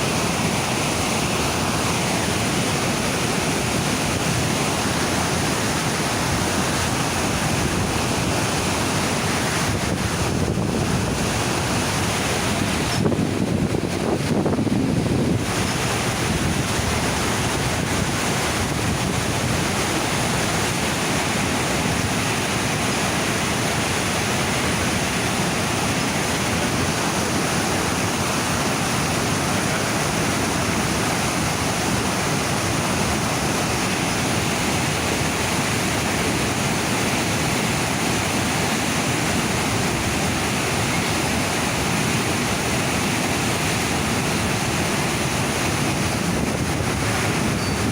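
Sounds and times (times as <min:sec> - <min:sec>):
river rapids rushing: 0:00.0 - 0:47.9.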